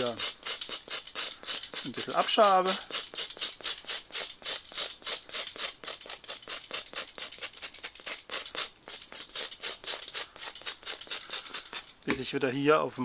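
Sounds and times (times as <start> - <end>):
knife scraping bread crust: 0.0 - 12.2.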